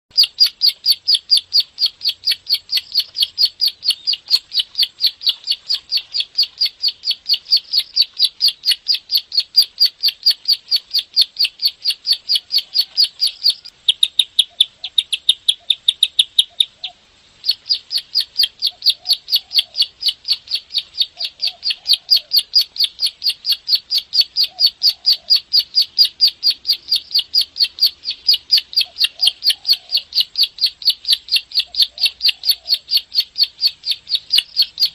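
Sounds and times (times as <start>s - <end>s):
bird clicking song: 0.1s - 17.0s, 17.6s - 34.9s.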